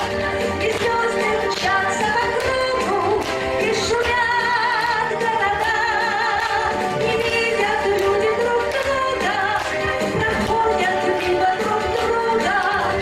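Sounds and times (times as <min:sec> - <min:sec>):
upbeat pop song: 0:00.0 - 0:13.0.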